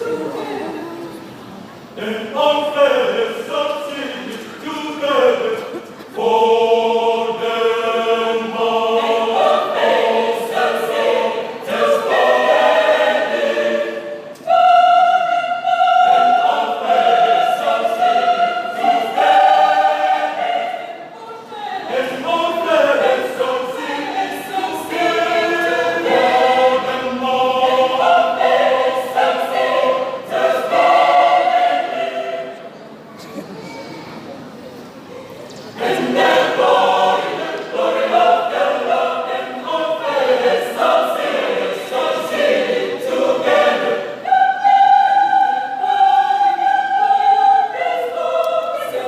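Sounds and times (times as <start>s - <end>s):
choir singing: 0.0s - 1.1s, 2.0s - 33.1s, 35.6s - 49.0s.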